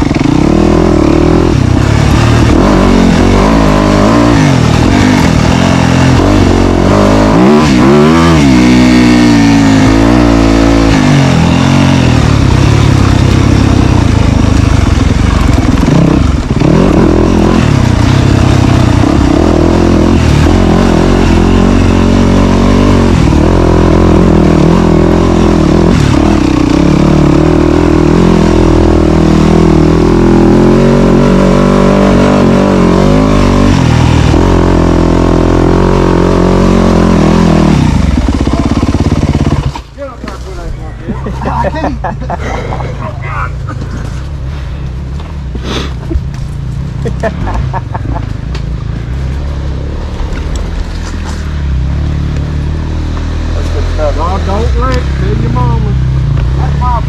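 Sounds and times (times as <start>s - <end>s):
dirt bike engine revving: 0.0s - 40.4s, 48.9s - 57.0s.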